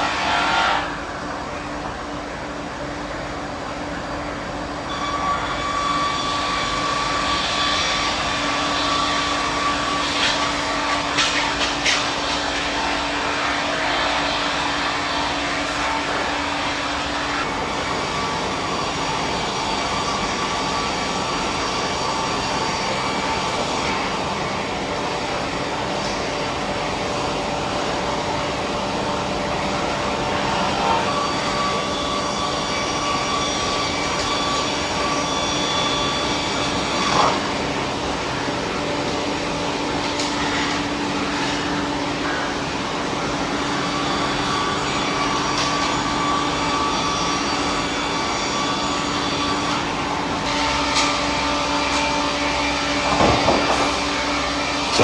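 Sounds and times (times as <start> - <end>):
sawmill machinery hum and whine: 0.0 - 55.0.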